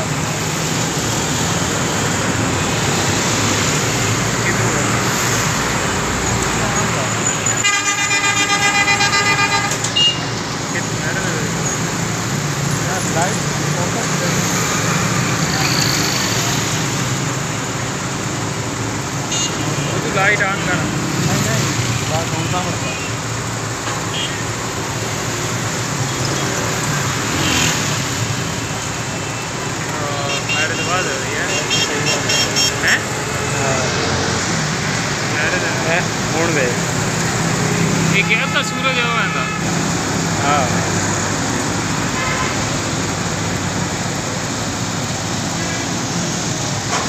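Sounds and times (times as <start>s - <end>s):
road traffic roar: 0.0s - 47.0s.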